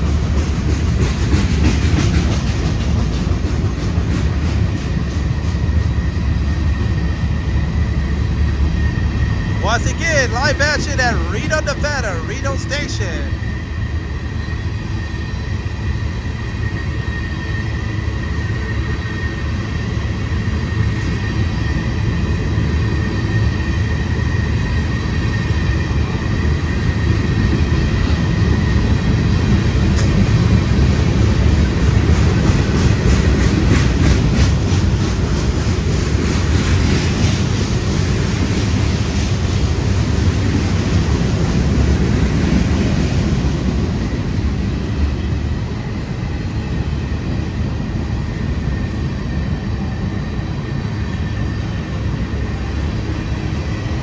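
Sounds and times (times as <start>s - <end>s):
high squeal from train wheels: 0.0s - 9.7s, 13.3s - 54.0s
freight train cars rumbling past: 0.0s - 54.0s.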